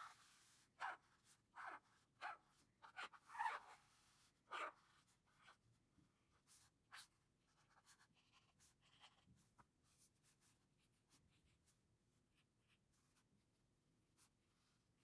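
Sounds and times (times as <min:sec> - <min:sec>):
brush pen scratching on paper: 0:00.0 - 0:13.3.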